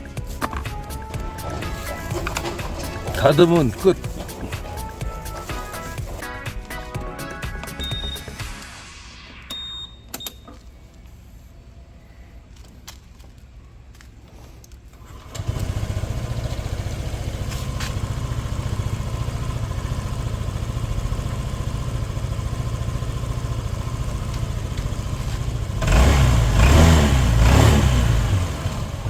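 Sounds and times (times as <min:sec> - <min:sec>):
motorcycle engine idling and revving: 0:00.0 - 0:08.4, 0:11.1 - 0:29.0.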